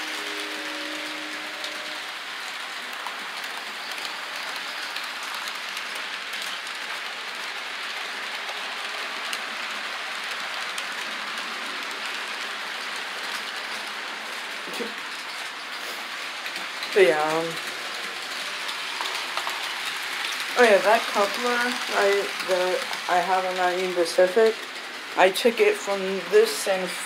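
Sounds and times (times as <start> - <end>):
model train whirring on track: 0.0 - 27.0.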